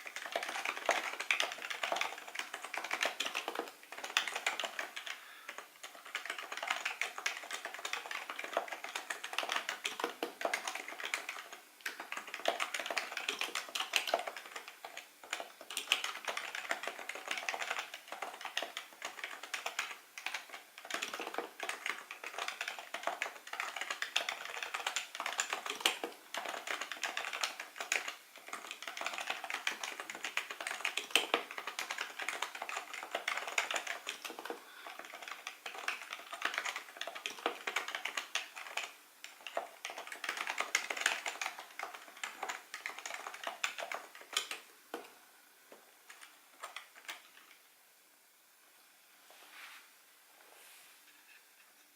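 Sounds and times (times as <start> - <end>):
rapid keyboard typing: 0.0 - 45.2, 45.9 - 47.6.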